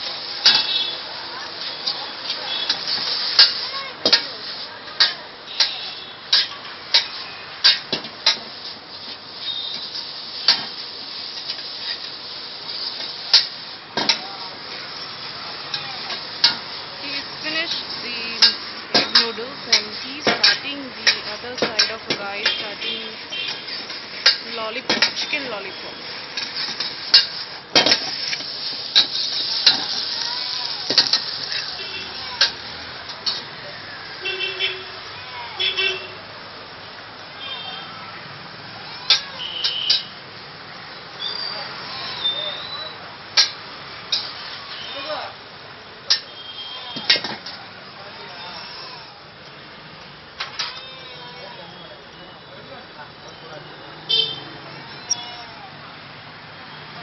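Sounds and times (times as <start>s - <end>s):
rice frying sizzle: 0.0s - 57.0s
steady hiss: 0.0s - 57.0s.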